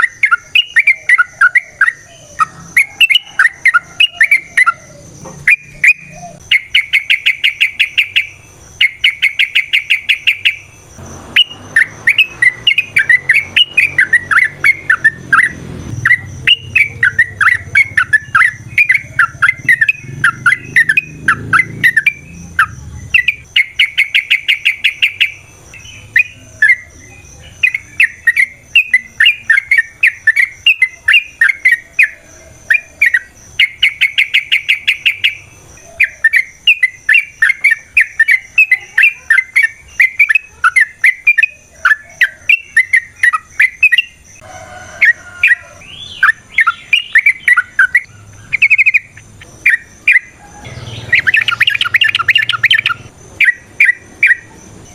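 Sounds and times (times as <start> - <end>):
bulbul singing: 0.0 - 54.9
rapid even bird trill: 0.0 - 54.9.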